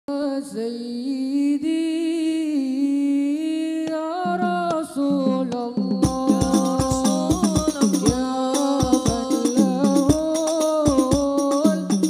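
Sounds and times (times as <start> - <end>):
person singing unaccompanied: 0.1 - 12.0.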